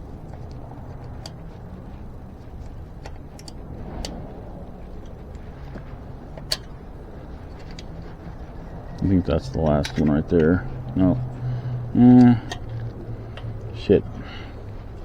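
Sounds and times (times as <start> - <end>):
low background rumble: 0.0 - 15.0
spoke wrench clicking on spokes: 0.0 - 15.0.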